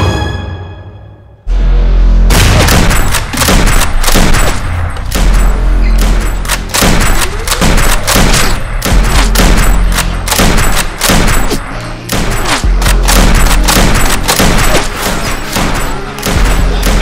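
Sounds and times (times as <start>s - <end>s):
rapid blaster shots: 2.3s - 17.0s.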